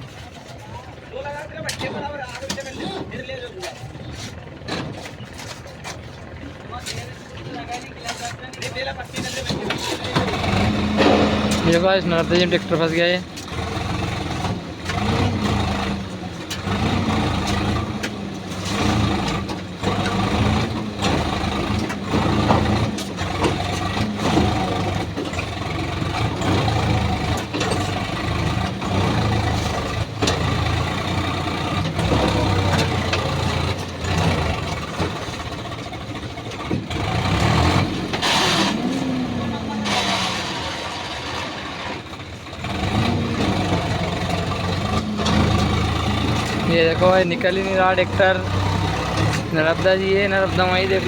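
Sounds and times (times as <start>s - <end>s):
diesel tractor engine revving: 1.2s - 51.0s.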